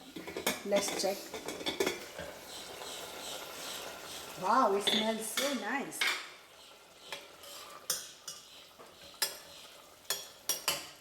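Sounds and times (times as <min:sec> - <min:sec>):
hot pan hiss: 0:00.0 - 0:11.0
spoon scraping a pan: 0:00.2 - 0:11.0.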